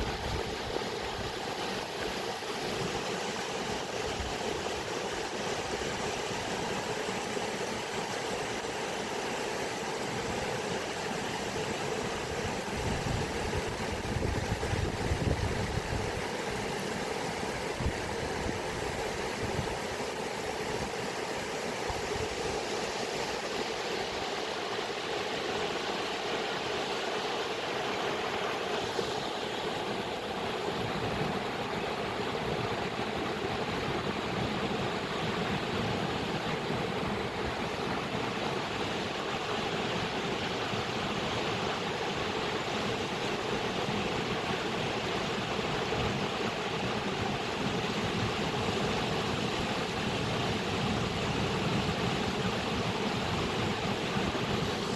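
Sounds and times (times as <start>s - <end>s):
flowing water rushing: 0.0s - 54.9s.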